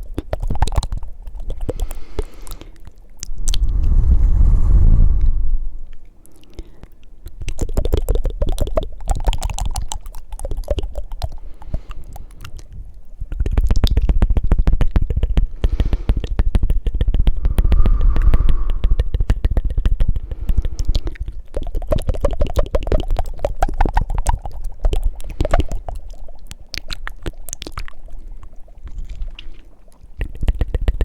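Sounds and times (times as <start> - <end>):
wet tongue flutters and mouth clicks: 0.0 - 31.0
breath rumbling on microphone: 0.3 - 27.4.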